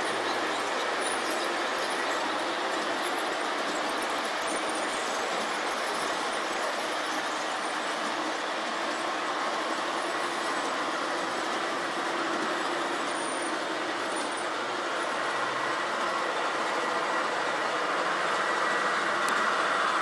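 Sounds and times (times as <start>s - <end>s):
model train wheels rumbling on rails: 0.0s - 20.0s.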